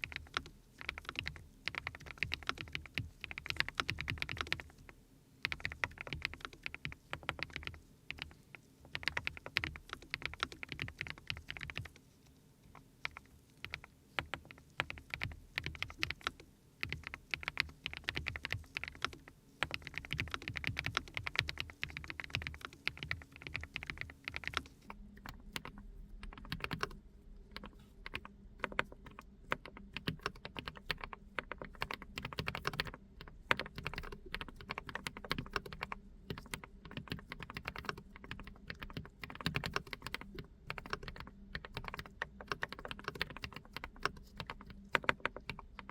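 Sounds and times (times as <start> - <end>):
mechanical keyboard typing: 0.0 - 12.0, 12.7 - 45.9.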